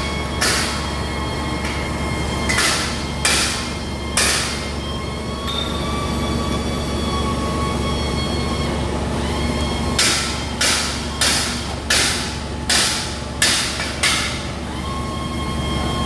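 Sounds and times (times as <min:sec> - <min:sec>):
machine hydraulic hum: 0:00.0 - 0:16.0.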